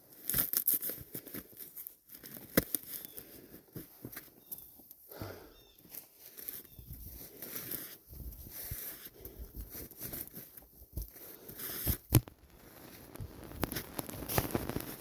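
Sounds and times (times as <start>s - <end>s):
crunching and crinkling: 0.0s - 15.0s.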